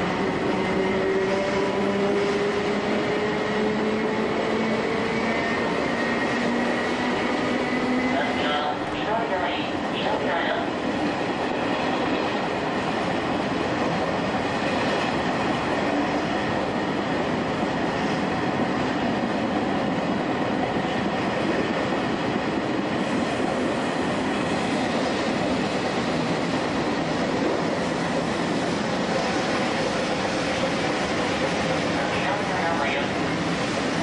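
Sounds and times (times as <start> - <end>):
electric train rumbling on rails: 0.0 - 34.0.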